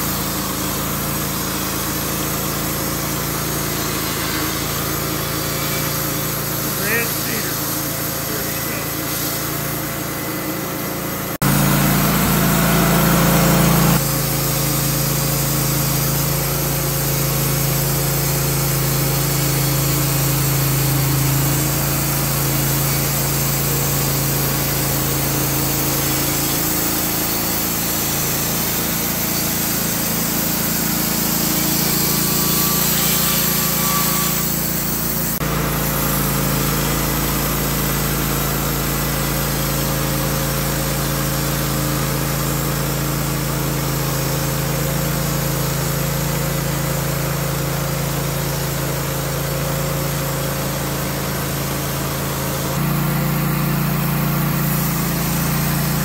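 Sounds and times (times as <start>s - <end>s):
band sawmill cutting log: 0.0s - 56.0s.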